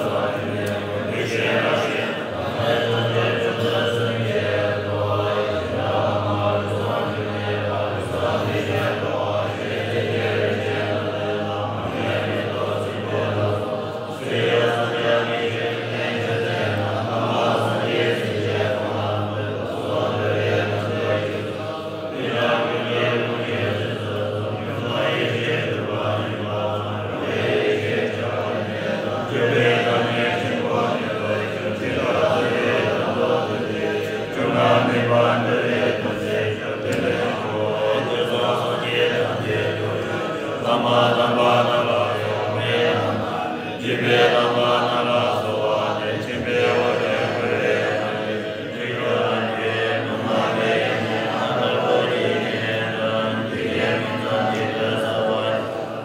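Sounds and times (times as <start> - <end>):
monks chanting in low voices: 0.0 - 56.0.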